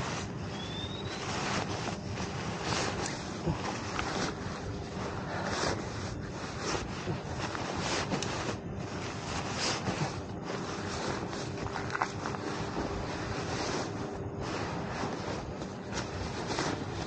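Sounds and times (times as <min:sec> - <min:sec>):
nylon fabric rustling: 0:00.0 - 0:17.0.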